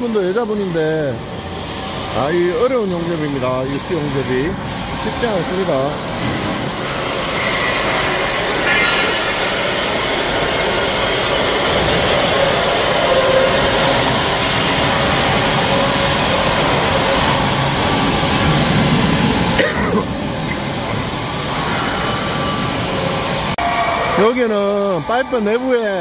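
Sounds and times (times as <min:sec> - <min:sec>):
industrial shop floor roar: 0:00.0 - 0:26.0
pipe welding: 0:00.0 - 0:26.0.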